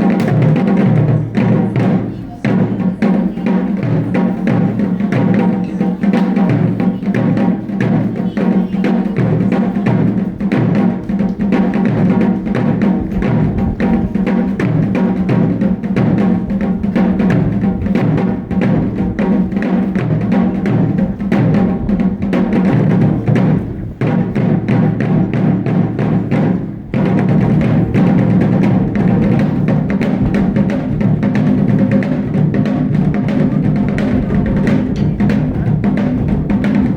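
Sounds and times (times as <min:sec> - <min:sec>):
taiko drums played fast: 0:00.0 - 0:36.9.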